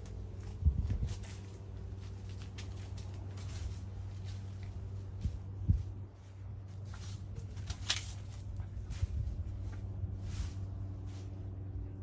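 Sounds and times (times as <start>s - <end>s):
puppy rustling leaves and twigs: 0.0s - 11.7s
low background hum: 0.0s - 12.0s.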